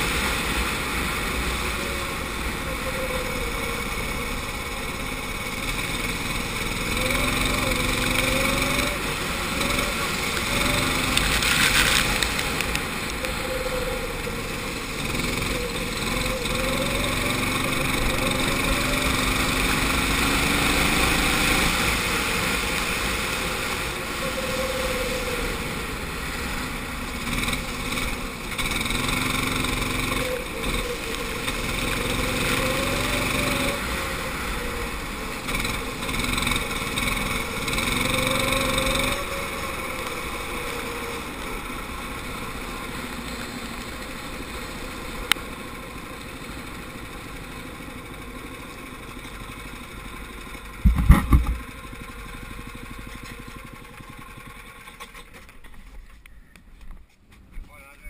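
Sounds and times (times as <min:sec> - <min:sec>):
go-kart engine revving: 0:00.0 - 0:56.5.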